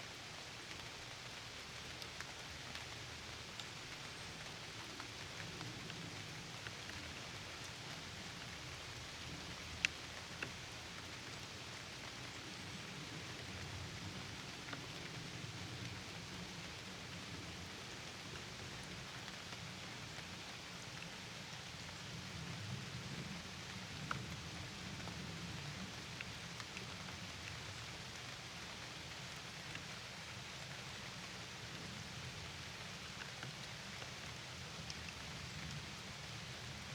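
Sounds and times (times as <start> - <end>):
rain falling: 0.1 - 36.9.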